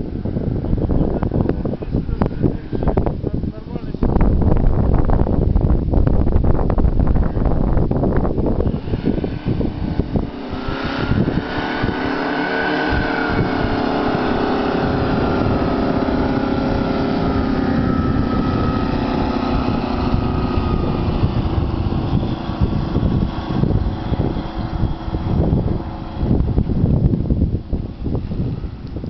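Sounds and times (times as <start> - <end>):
aircraft propeller engines: 0.0 - 29.0.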